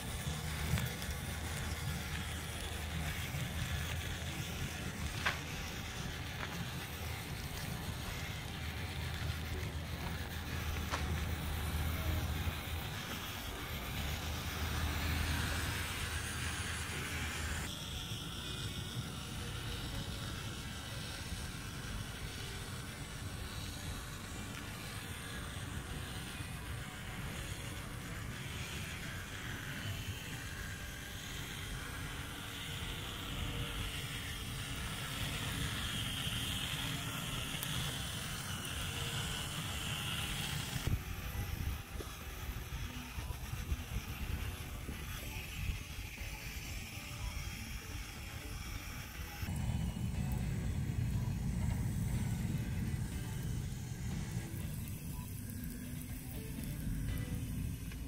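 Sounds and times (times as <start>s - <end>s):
small motors humming and rattling: 0.0s - 58.0s.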